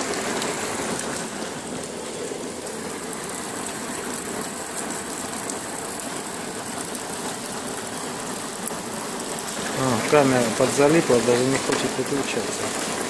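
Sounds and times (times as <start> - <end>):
rain splashing onto roofs: 0.0 - 13.0
water pouring off roof edge: 0.0 - 13.0.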